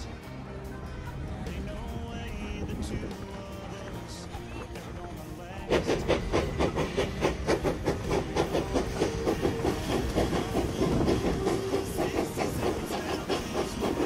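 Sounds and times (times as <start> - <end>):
train cars rattling on rails: 1.1 - 14.0
steam locomotive chuffing: 2.4 - 14.0.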